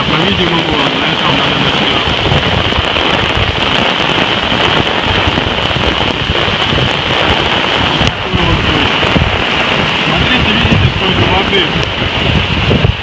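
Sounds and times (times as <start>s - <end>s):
torrential rain pouring: 0.0s - 13.0s
wind buffeting microphone: 0.0s - 13.0s.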